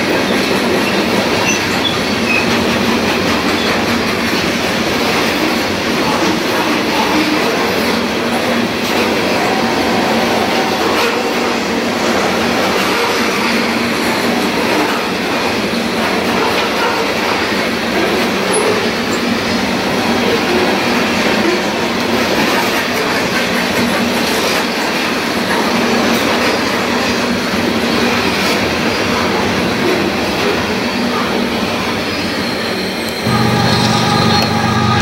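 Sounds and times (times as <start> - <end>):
steel wheels rolling on rails: 0.0 - 35.0.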